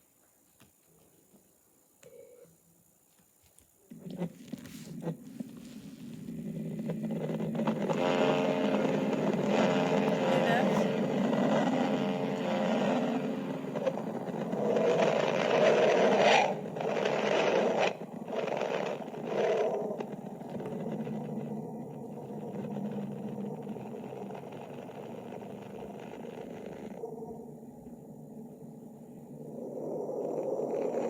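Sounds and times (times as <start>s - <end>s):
eerie windy roaring noise: 4.9s - 31.0s.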